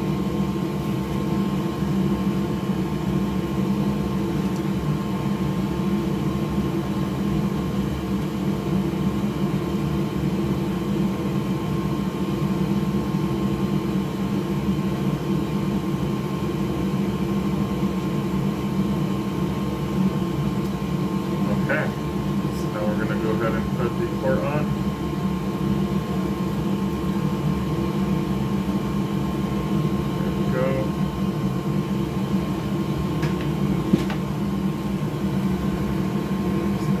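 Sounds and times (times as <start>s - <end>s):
electric fan motor whirring: 0.0s - 37.0s.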